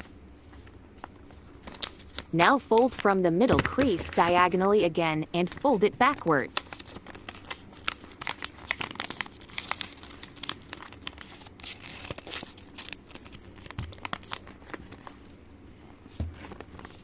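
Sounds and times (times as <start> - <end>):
paper rustling and crinkling: 0.4 - 4.6, 5.4 - 17.0.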